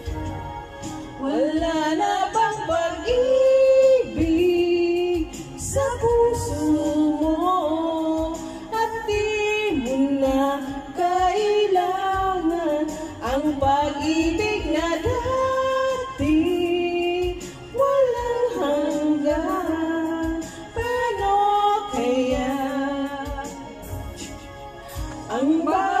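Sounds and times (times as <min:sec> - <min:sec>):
woman singing a love ballad: 0:00.8 - 0:26.0.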